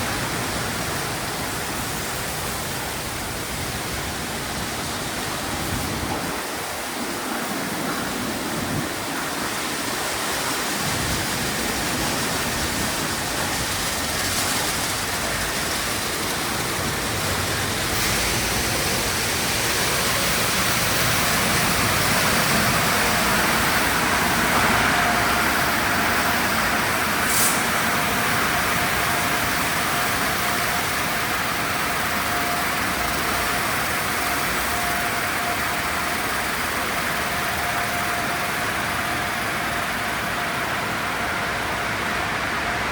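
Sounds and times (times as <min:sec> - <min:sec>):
car wash equipment rushing: 0:00.0 - 0:42.9.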